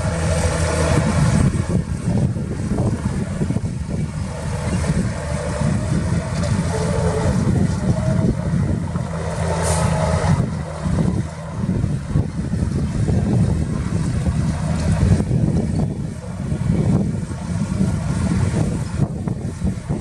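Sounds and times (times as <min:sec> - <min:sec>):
heavy diesel machinery rumbling: 0:00.0 - 0:20.0.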